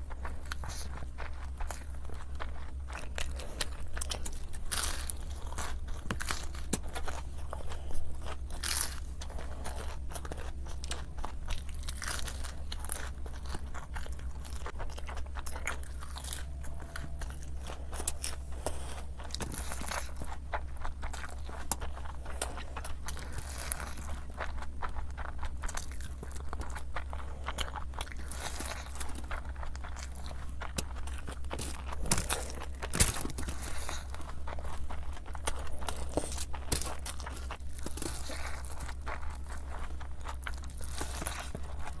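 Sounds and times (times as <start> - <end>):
crunchy food being chewed: 0.0 - 42.0
steady low hum: 0.0 - 42.0.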